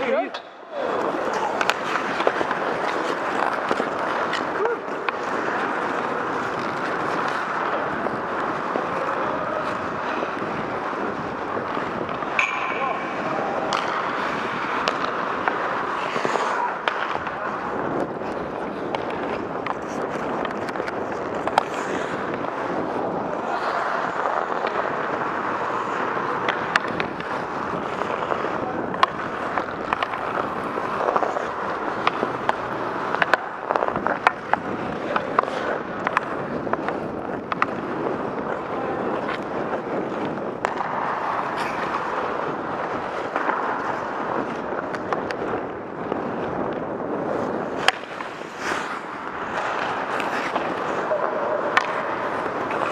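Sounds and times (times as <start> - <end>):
skates scraping on ice: 0.0 - 52.9
sticks and puck clacking: 0.0 - 52.9.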